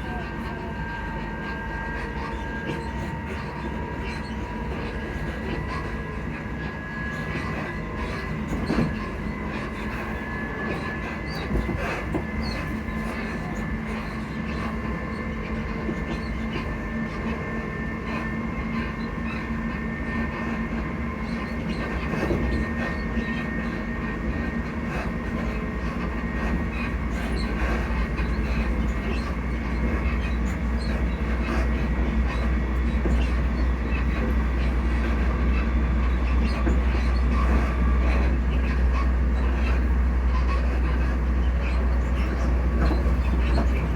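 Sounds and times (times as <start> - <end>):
traction motors humming: 0.0 - 43.9
train wheels rumbling on track: 0.0 - 43.9.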